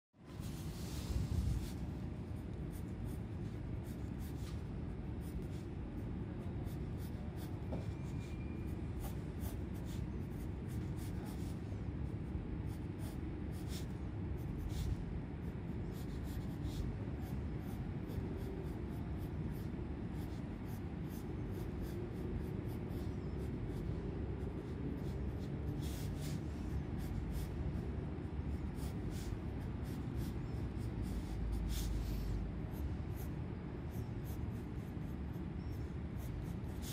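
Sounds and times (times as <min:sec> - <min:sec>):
pencil scratching on paper: 0:00.4 - 0:36.9.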